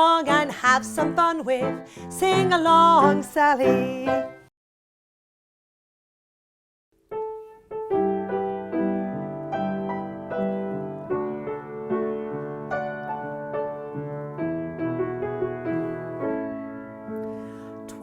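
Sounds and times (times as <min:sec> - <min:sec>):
piano music: 0:00.0 - 0:04.5, 0:07.0 - 0:18.0.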